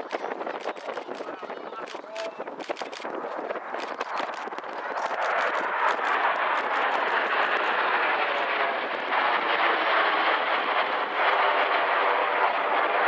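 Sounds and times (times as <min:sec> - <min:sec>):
jets flying overhead: 0:00.0 - 0:13.0.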